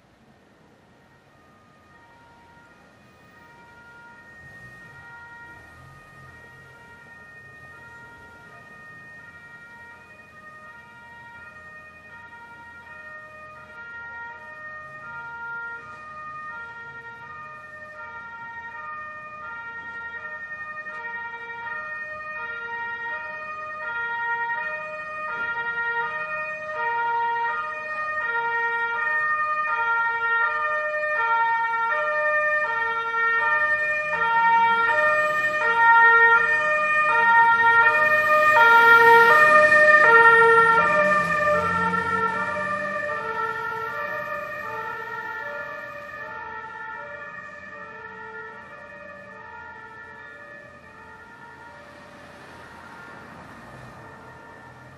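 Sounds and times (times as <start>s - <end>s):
ambulance two-tone siren: 0.0s - 54.9s
vehicle engine and road noise: 0.0s - 54.9s.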